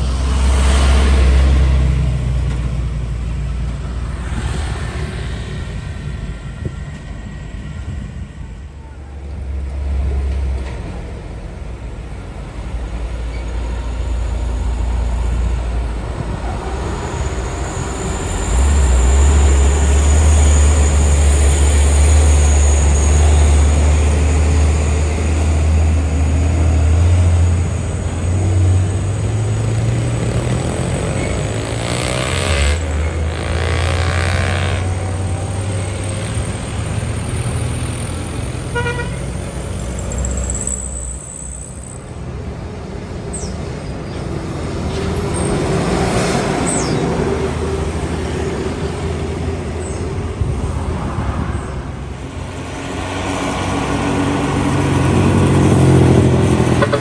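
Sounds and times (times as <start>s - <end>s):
diesel trucks passing: 0.0s - 57.0s.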